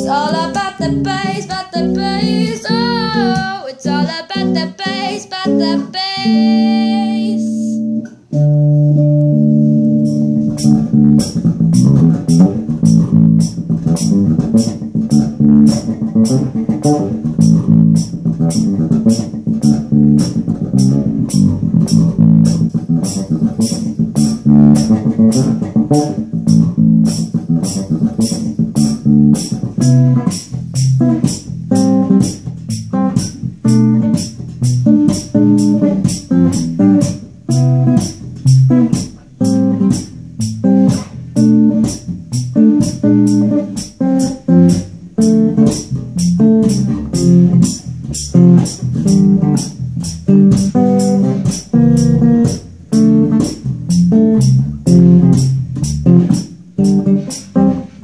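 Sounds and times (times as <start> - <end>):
electric bass line through amp: 0.0 - 58.0
high metronome tick: 7.6 - 58.0.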